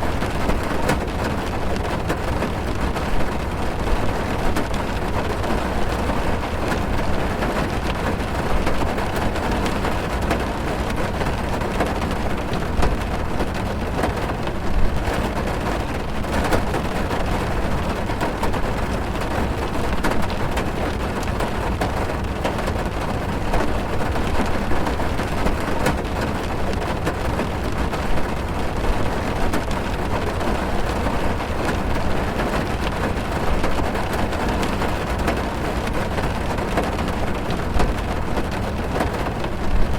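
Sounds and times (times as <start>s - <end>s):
heavy rain drumming on car roof: 0.0s - 39.9s.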